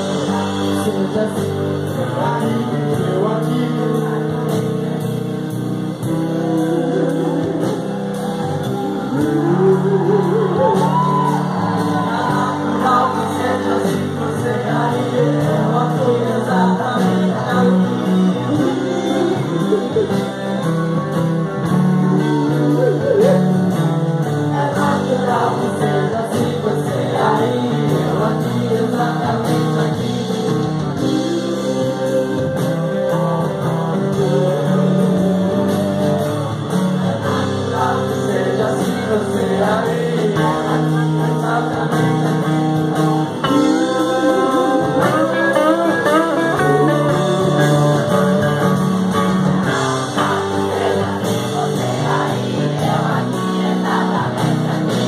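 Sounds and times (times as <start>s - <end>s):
electric guitar: 0.0s - 55.0s
live band playing: 0.0s - 55.0s.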